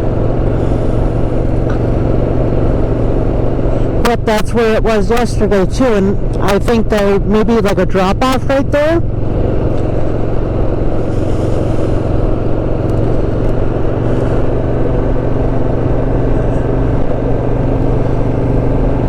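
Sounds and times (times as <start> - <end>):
motorcycle engine cruising: 0.0 - 19.0
road and wind noise: 0.0 - 19.0.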